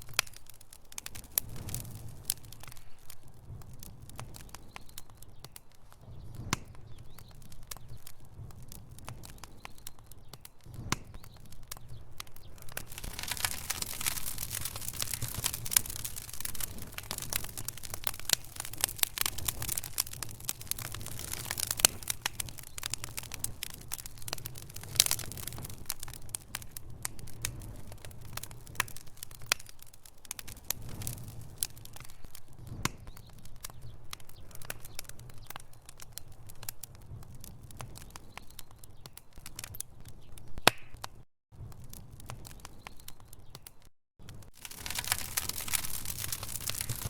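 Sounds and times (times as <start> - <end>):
logs crackling and popping: 0.0 - 47.0
low rumble of fire: 0.0 - 47.0.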